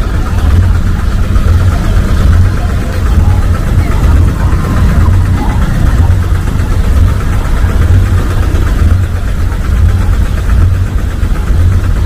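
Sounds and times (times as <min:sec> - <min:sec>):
boat diesel engine idling: 0:00.0 - 0:12.0.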